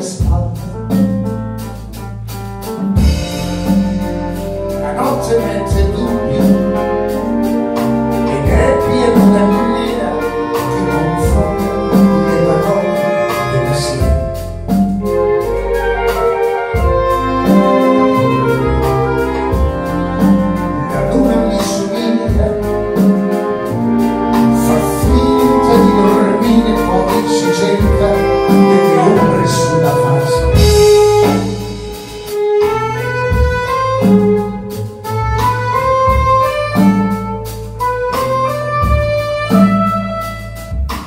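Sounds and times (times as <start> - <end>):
double bass: 0.0 - 41.0
drum kit beat: 0.0 - 41.0
piano: 0.0 - 41.0
saxophone melody: 0.0 - 41.0.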